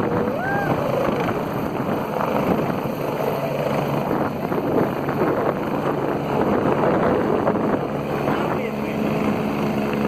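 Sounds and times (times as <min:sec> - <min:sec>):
helicopter rotor and engine: 0:00.0 - 0:10.0
wind on microphone: 0:00.0 - 0:10.0.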